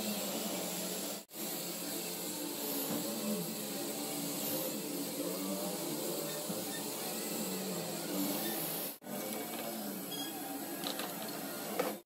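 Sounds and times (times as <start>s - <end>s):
welding torch flame hissing: 0.0s - 12.0s.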